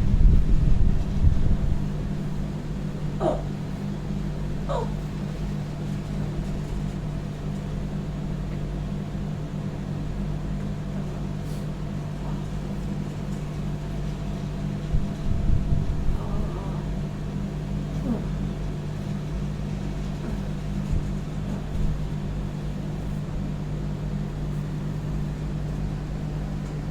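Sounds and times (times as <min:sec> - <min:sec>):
low mechanical hum: 0:00.0 - 0:26.9.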